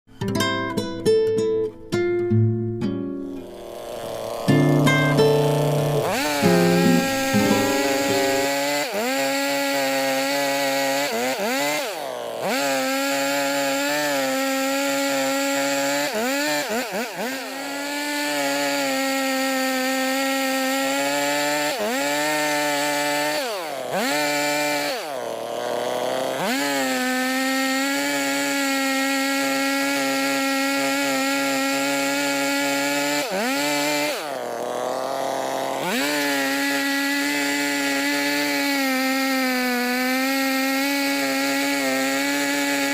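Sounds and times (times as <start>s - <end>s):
chainsaw cutting logs: 3.1s - 42.9s.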